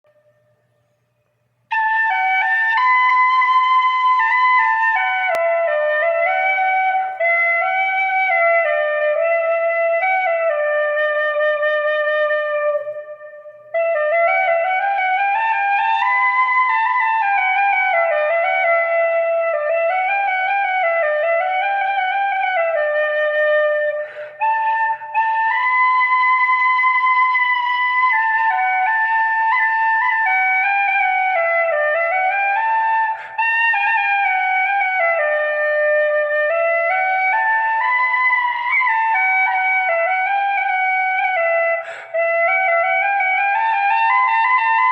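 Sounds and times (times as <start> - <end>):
flute playing slow melody: 1.7 - 44.9.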